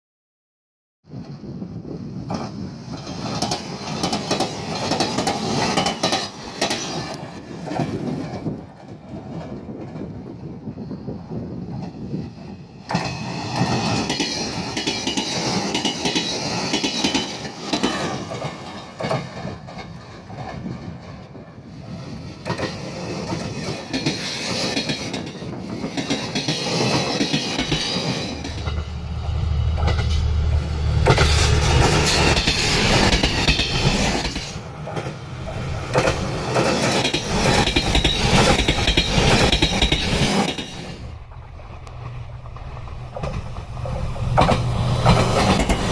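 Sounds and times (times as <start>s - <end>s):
train wheels clattering on rails: 2.2s - 45.9s.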